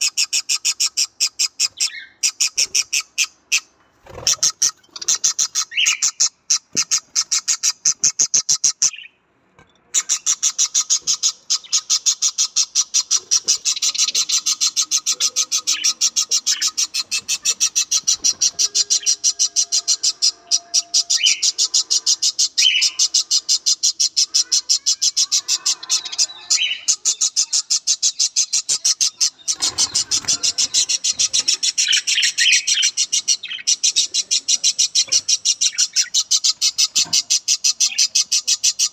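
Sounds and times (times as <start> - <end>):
budgerigars chirping: 0.0 - 9.2, 9.9 - 38.9.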